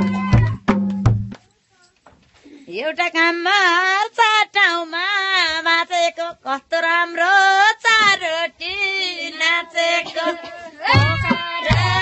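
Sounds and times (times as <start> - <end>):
woman singing in a high voice: 0.0 - 0.7, 2.7 - 12.0.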